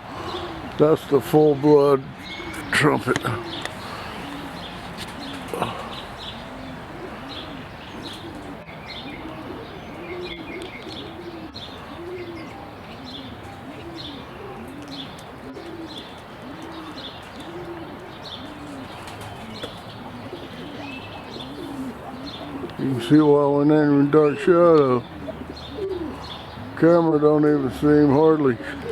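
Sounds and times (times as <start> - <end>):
pigeons cooing: 0.0 - 28.9.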